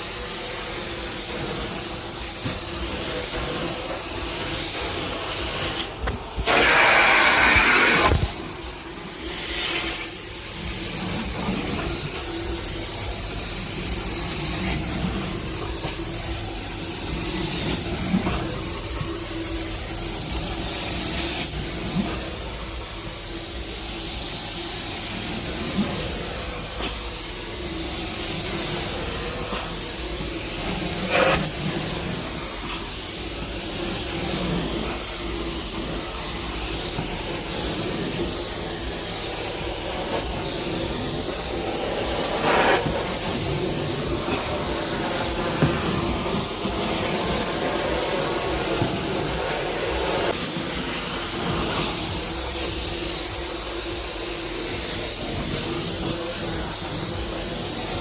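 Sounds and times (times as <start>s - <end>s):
carpet-cleaning suction machine: 0.0s - 58.0s.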